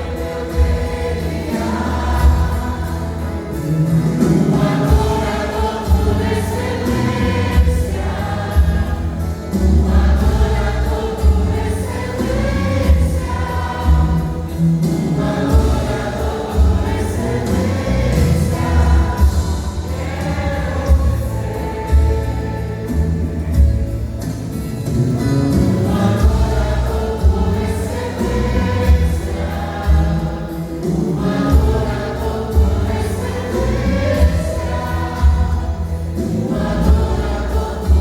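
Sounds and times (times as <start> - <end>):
vocal group singing gospel: 0.0 - 38.0.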